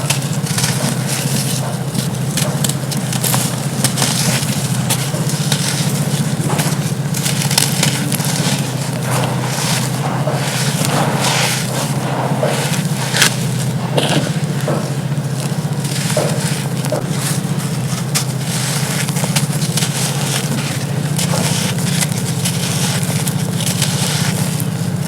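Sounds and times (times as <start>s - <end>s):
charcoal crunching and crackling: 0.0s - 25.0s
steady low hum: 0.0s - 25.0s.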